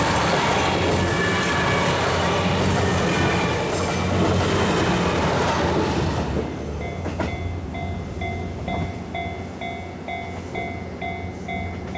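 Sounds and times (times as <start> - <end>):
diesel train rumbling past: 0.0 - 11.9.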